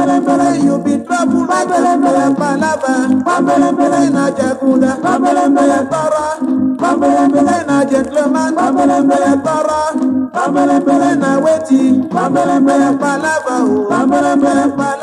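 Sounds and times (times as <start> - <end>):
highlife band music: 0.0 - 15.0
voices singing: 0.0 - 15.0.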